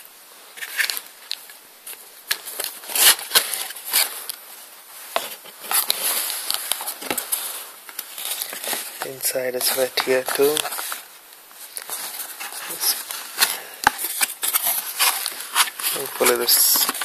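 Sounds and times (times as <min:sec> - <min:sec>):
cardboard packaging rustling: 0:00.6 - 0:17.0.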